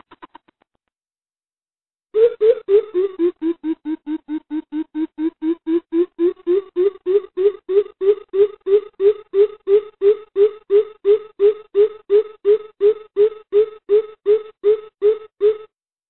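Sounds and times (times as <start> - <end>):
bird deep hooting calls: 2.2 - 15.7.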